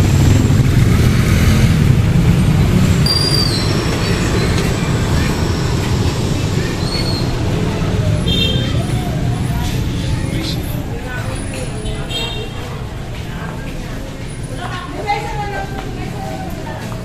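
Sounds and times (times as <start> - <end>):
vehicle and motorcycle engines rumbling: 0.0 - 17.0.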